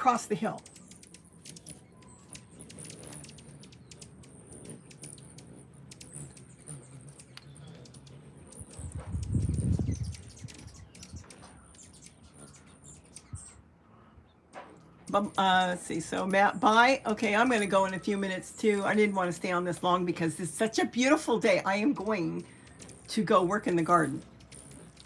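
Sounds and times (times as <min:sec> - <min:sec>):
hummingbirds chirping and squeaking: 0:00.0 - 0:25.0.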